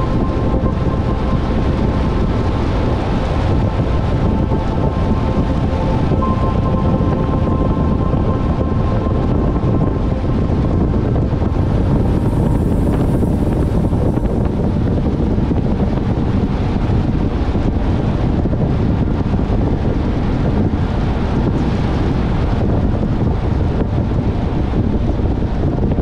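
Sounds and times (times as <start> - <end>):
low rumble of tyres and engine: 0.0 - 26.0
wind buffeting microphone: 0.0 - 26.0.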